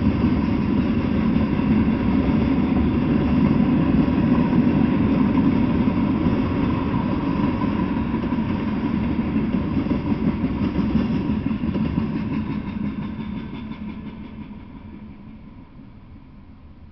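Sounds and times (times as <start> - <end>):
steel train wheels on track: 0.0 - 16.9.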